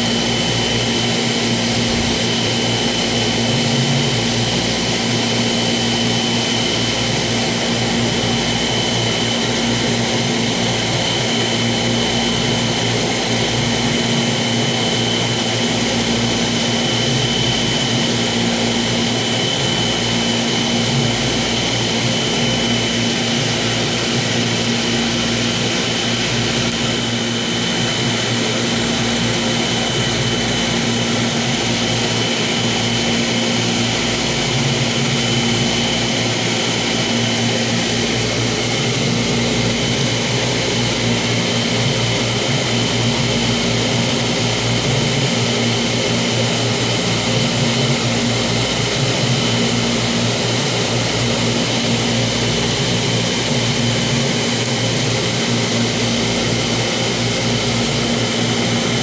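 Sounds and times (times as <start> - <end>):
aquarium pumps humming: 0.0 - 59.0.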